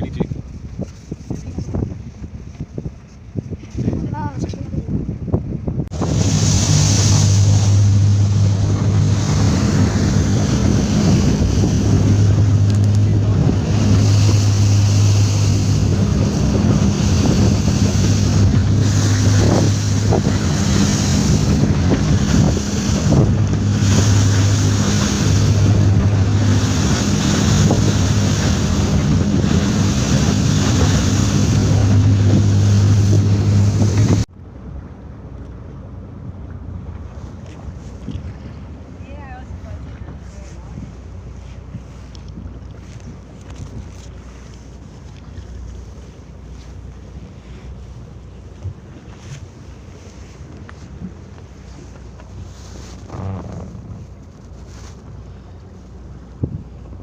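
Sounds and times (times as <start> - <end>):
wind buffeting microphone: 0.0 - 34.4, 36.0 - 57.0
boat engine humming: 0.0 - 57.0
rushing water: 5.9 - 57.0.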